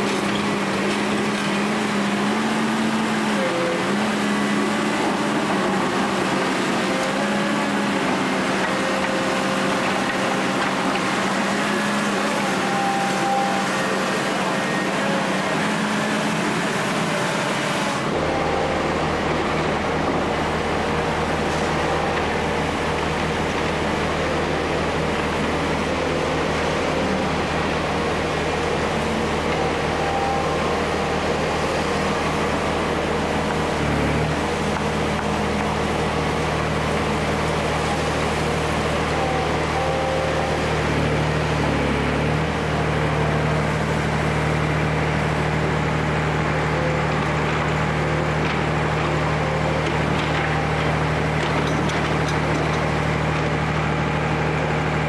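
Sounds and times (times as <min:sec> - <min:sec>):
excavator diesel engine drone: 0:00.0 - 0:55.0.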